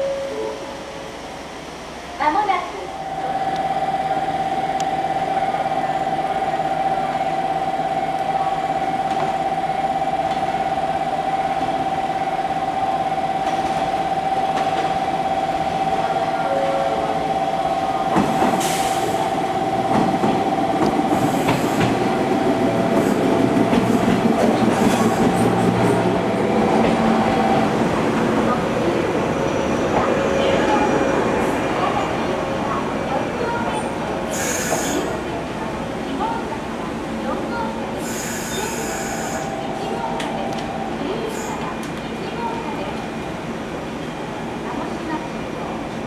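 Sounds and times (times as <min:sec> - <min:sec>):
electric train whine: 0:00.0 - 0:43.2
train clanks and rumble: 0:04.8 - 0:46.0.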